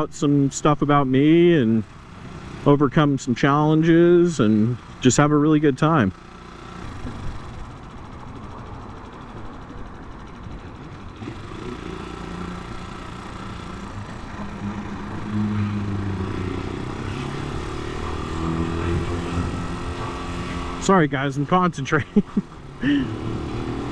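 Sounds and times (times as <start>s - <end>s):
motorcycle engine running: 0.0s - 23.9s
road and wind noise: 0.0s - 23.9s.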